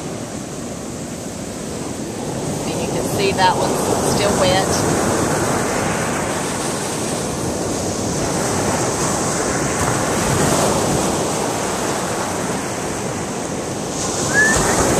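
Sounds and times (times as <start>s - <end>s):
waves breaking on beach: 0.0s - 14.9s
wind buffeting microphone: 0.0s - 14.9s.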